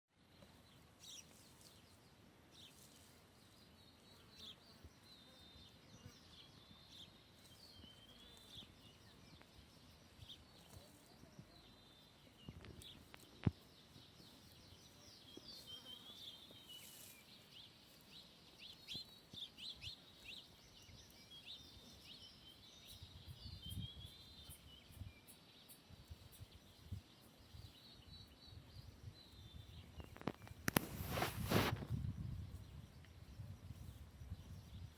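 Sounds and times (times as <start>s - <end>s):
small birds chirping and trilling: 0.1s - 34.9s.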